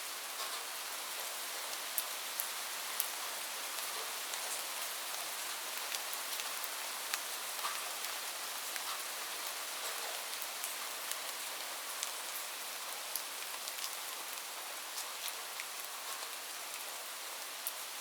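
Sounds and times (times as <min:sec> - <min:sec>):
rain on a hard surface: 0:00.0 - 0:18.0.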